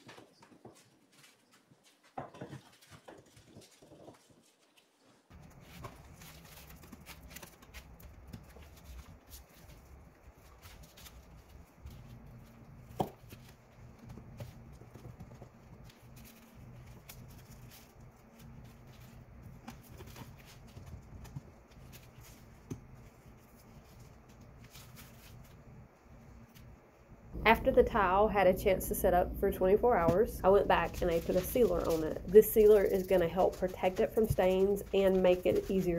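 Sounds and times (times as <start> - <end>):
low steady hum: 5.3 - 35.9.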